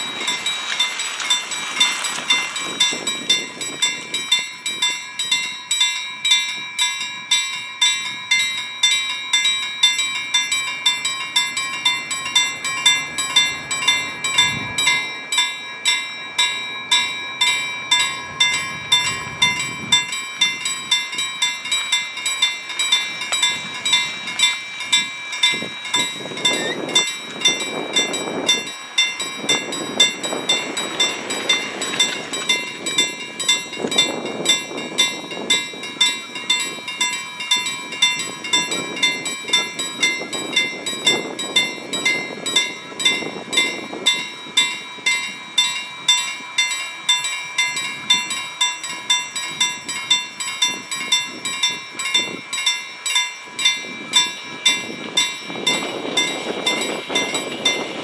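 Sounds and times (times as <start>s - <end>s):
level crossing warning bell: 0.0s - 58.0s.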